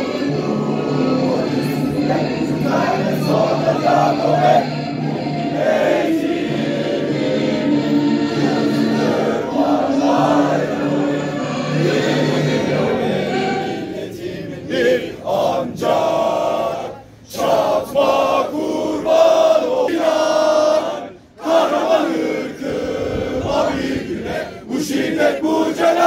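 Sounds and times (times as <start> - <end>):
crowd singing in unison: 0.0 - 26.0.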